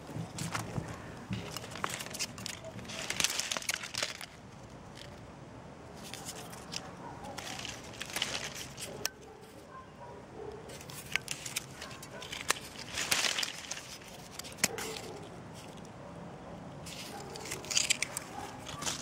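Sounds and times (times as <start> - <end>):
dry branches and leaves crackling: 0.0 - 9.8, 10.4 - 16.0, 16.7 - 19.0.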